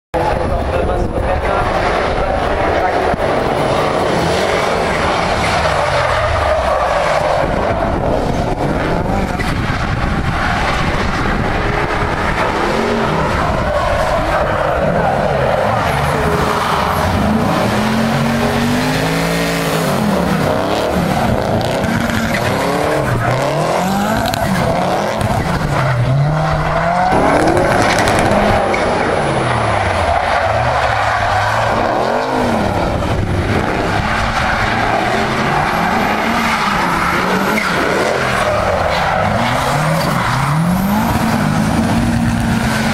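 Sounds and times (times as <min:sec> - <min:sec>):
car engines revving: 0:00.2 - 0:42.9
tyre squeal and skidding: 0:03.4 - 0:42.9.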